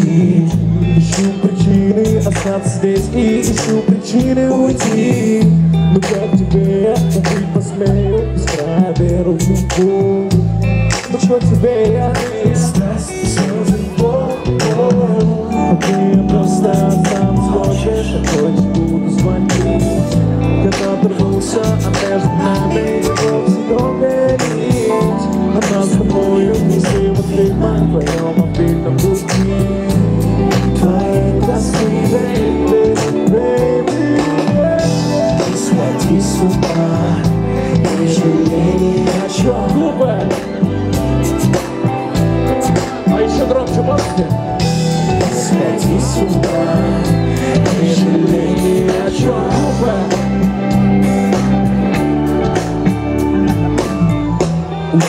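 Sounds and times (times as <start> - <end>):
song with drum beat and singing: 0.0 - 55.0.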